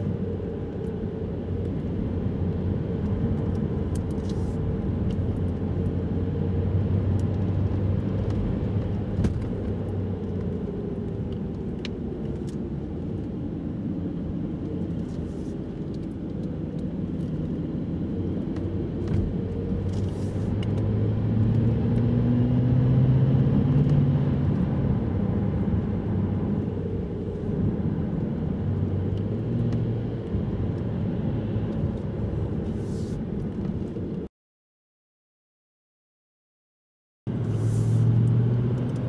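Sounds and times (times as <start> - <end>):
car engine and tyre rumble: 0.0 - 34.3, 37.3 - 39.0.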